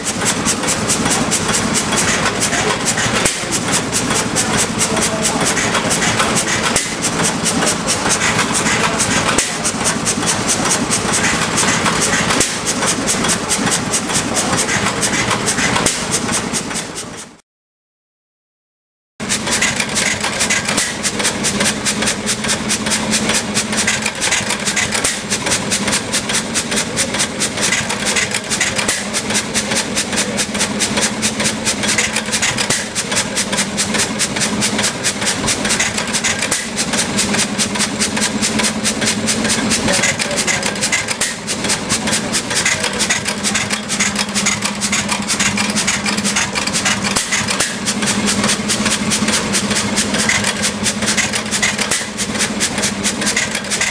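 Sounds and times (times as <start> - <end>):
stationary engine clattering: 0.0 - 17.4, 19.2 - 53.9.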